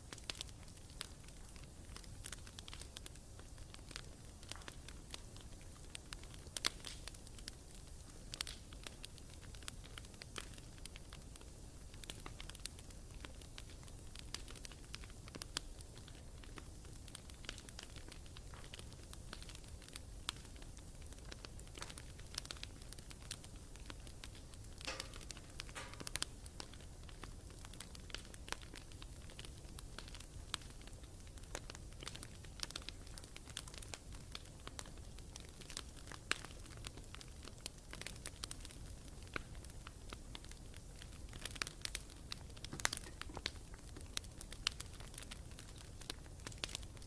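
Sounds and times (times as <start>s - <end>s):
bonfire crackling: 0.0s - 47.0s.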